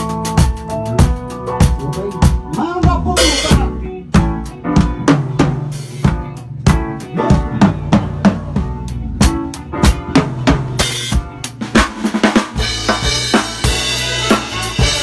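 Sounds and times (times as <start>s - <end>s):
drum kit beat: 0.0s - 15.0s
keyboards: 0.0s - 15.0s.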